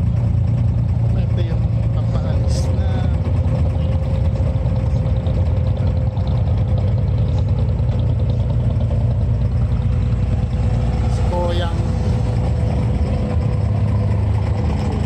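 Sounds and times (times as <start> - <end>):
boat diesel engine drone: 0.0 - 15.0.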